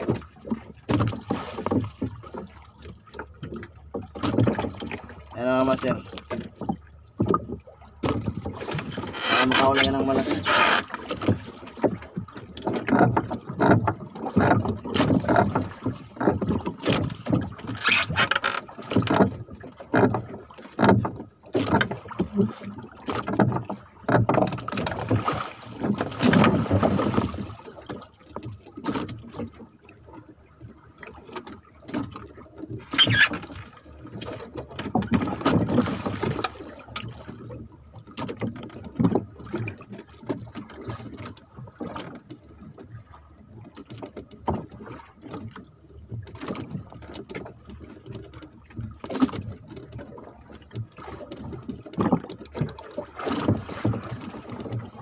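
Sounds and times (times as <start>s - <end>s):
water splashes: 0.0s - 55.0s.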